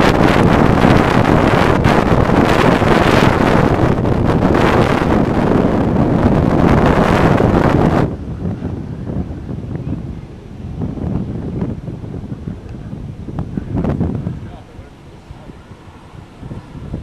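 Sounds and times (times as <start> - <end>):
model jet engine roar: 0.0 - 17.0
wind buffeting microphone: 0.0 - 17.0.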